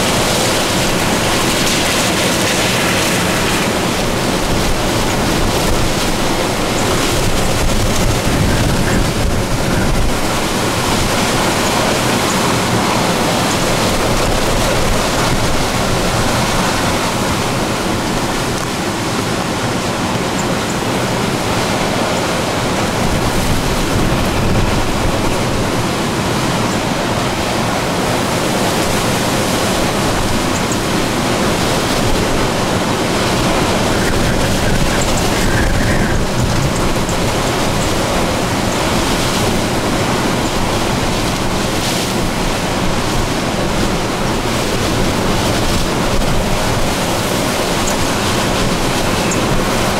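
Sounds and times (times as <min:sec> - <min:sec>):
strong wind blowing: 0:00.0 - 0:49.9
wind buffeting microphone: 0:00.0 - 0:49.9.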